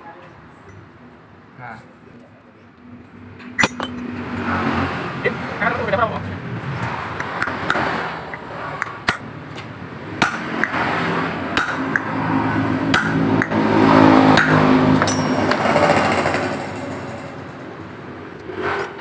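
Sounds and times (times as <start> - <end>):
vehicle engine: 0.0 - 19.0.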